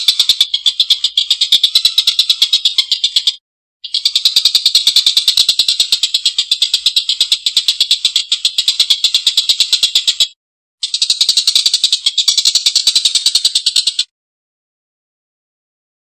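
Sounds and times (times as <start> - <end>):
kingfisher rattling cackle: 0.0 - 14.1.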